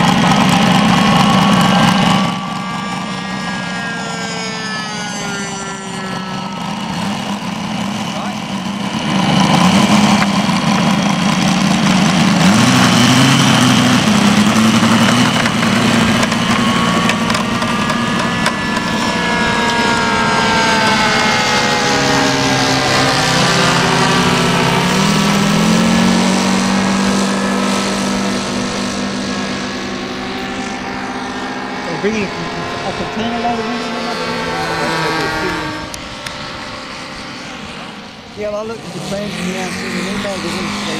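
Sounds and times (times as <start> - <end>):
model plane radial engine running: 0.0 - 40.9.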